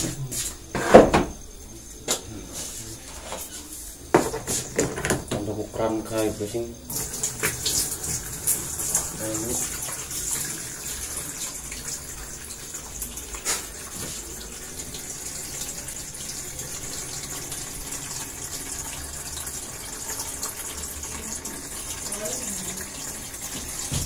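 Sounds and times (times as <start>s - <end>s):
water pouring into washing machine tub: 4.2s - 24.0s.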